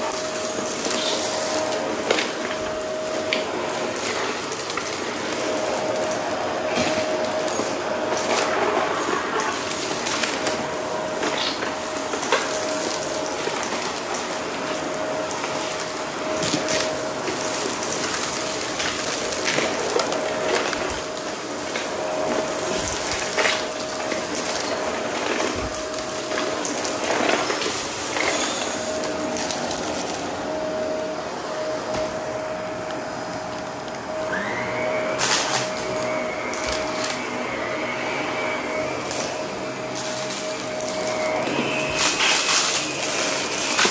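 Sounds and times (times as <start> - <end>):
debris clattering in vacuum brushroll: 0.0 - 32.2, 34.9 - 43.9
vacuum cleaner motor whine: 0.0 - 43.9.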